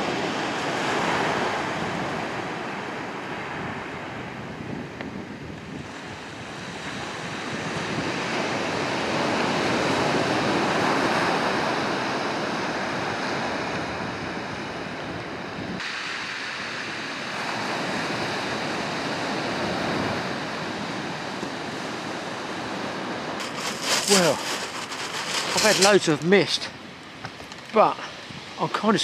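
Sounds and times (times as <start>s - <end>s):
surf breaking on beach: 0.0s - 4.3s, 5.7s - 15.1s, 15.8s - 27.0s
wind buffeting microphone: 0.0s - 15.8s, 17.0s - 28.6s.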